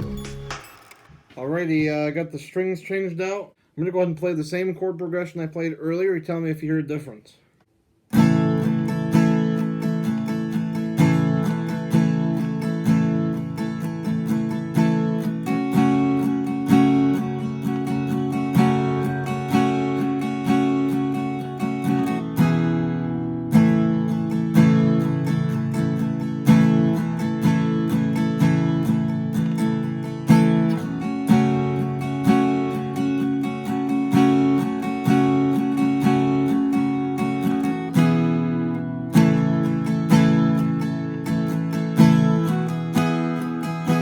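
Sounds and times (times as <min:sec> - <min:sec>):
acoustic guitar strumming chords: 0:00.0 - 0:02.0, 0:08.1 - 0:44.0.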